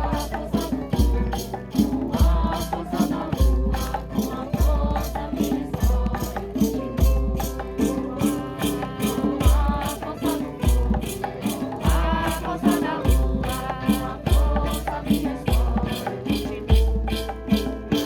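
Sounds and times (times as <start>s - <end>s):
deep drum beat: 0.0s - 18.0s
maracas shaken: 0.0s - 18.0s.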